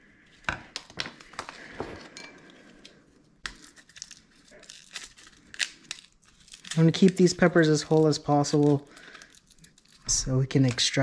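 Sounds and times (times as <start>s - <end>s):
dried chili pods crackling: 0.6s - 11.0s.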